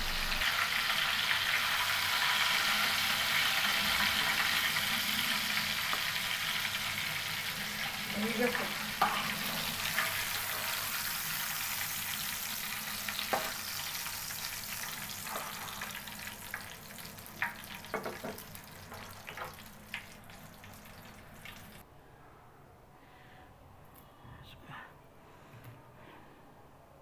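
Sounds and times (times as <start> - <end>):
oil sizzling in a frying pan: 0.0 - 21.8.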